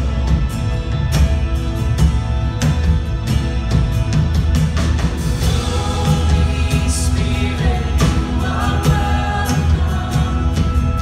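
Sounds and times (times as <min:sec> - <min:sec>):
heavy bass: 0:00.0 - 0:11.0
steady drum beat: 0:00.0 - 0:11.0
worship band playing: 0:00.0 - 0:11.0.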